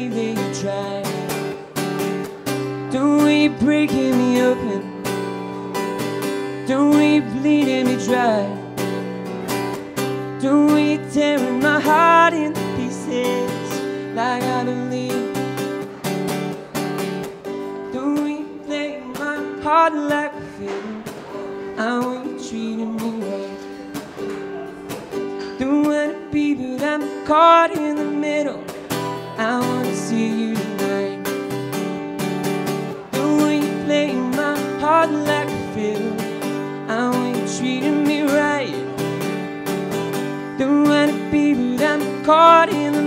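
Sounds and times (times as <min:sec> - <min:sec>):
man singing: 0:00.0 - 0:16.0, 0:17.5 - 0:24.0, 0:25.3 - 0:43.0
acoustic guitar strumming: 0:00.0 - 0:43.0.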